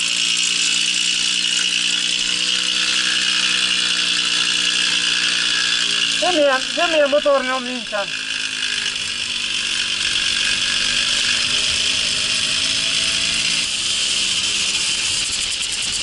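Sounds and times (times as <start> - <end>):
moped two-stroke engine running: 0.0 - 16.0.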